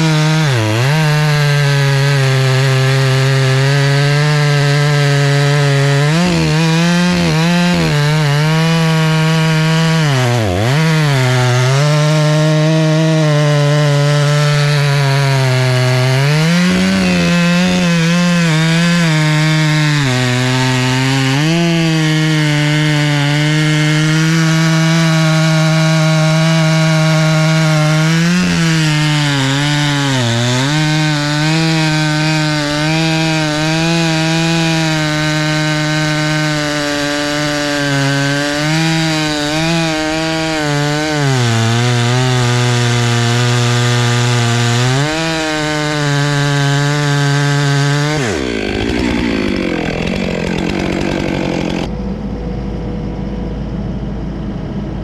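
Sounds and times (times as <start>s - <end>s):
chainsaw cutting log: 0.0s - 51.9s.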